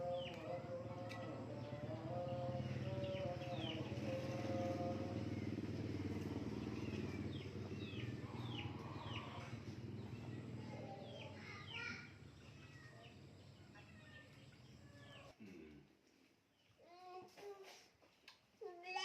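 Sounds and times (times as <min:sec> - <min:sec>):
bird chirping: 0:00.0 - 0:15.4.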